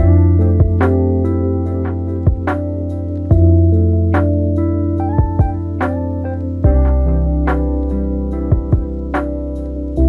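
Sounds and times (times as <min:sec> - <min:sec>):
lo-fi hip hop beat: 0:00.0 - 0:10.0.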